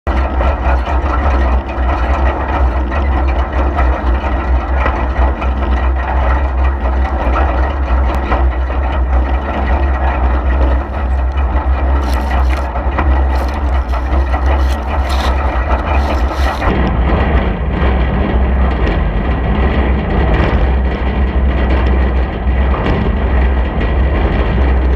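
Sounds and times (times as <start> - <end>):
tractor diesel engine running: 0.1 - 24.9.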